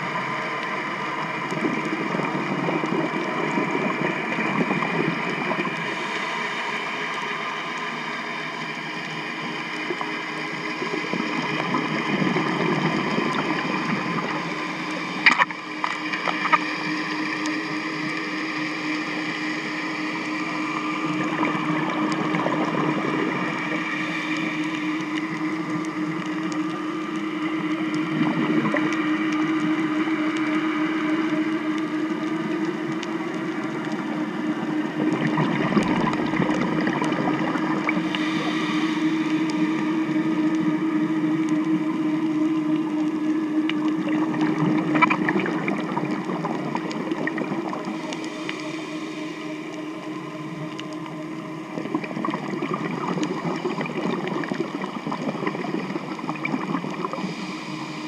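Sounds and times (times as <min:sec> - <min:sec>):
underwater motorboat drone: 0:00.0 - 0:58.0
underwater rushing noise: 0:00.0 - 0:58.0.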